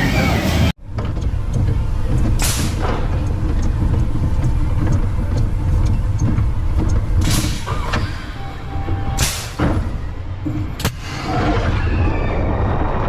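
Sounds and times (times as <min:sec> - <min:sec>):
roller coaster wheels rumbling: 0:00.0 - 0:13.0.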